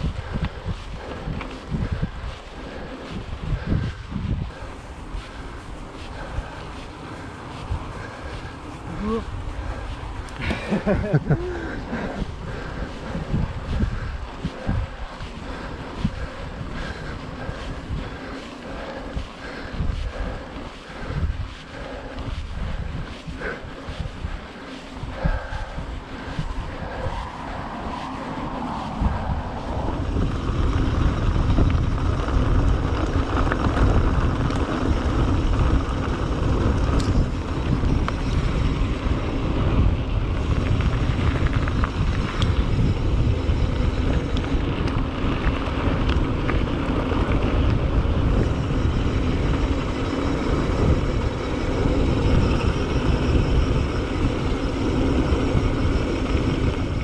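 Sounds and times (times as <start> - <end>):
bike clicks and rattles: 0.0 - 57.0
bike tyre noise: 0.0 - 57.0
wind rumble on microphone: 0.0 - 57.0.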